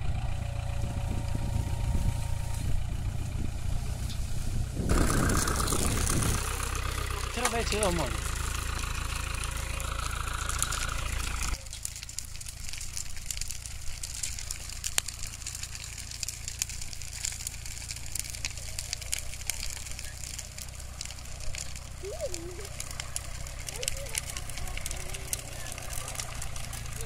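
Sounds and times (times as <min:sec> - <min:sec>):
sharp crackles: 0:00.0 - 0:27.0
tractor diesel engine running: 0:00.0 - 0:27.0.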